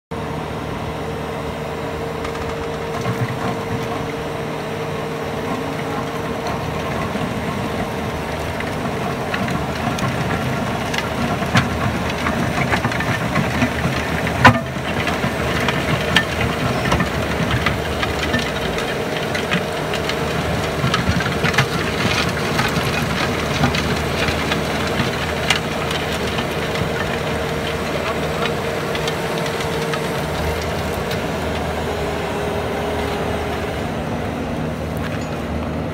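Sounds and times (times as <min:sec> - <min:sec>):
diesel engine under load: 0:00.1 - 0:35.9
planer grinding asphalt: 0:00.1 - 0:35.9.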